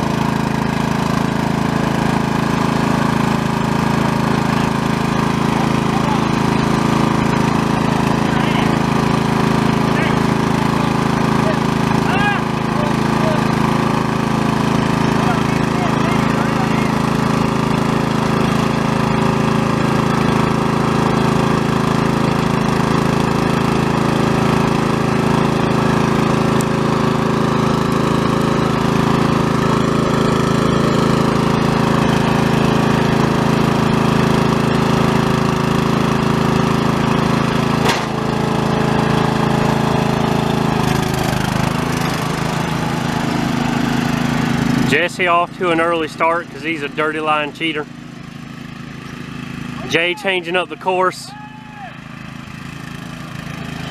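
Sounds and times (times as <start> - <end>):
riding lawn mower engine: 0.0 - 53.9.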